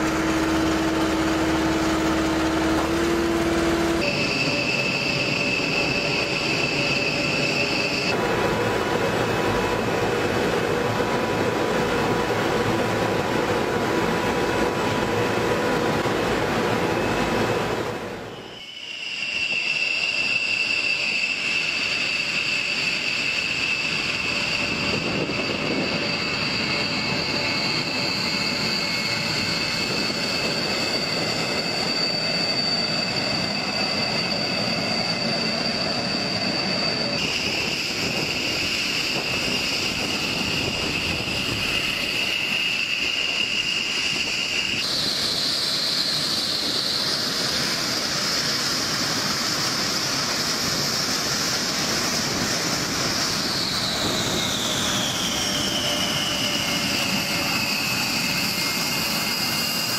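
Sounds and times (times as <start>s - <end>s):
high turbine whine: 0.0s - 59.9s
jet turbines rushing: 0.0s - 59.9s.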